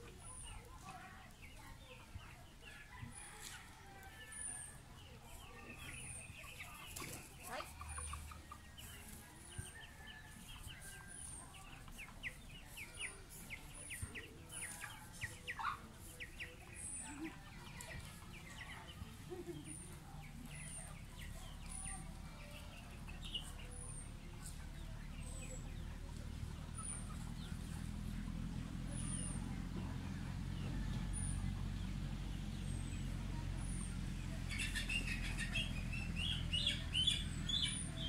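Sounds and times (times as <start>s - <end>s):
chickens clucking: 0.0s - 38.0s
vehicle engine rumble: 0.0s - 38.0s.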